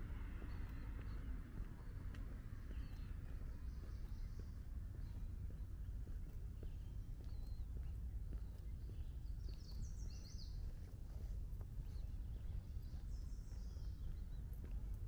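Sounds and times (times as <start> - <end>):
faint footsteps on pavement: 0.0 - 15.0
songbirds chirping: 0.0 - 15.0.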